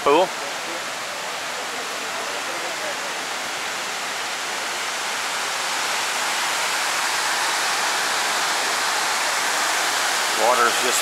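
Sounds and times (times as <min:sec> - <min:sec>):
waterfall hiss: 0:00.0 - 0:11.0.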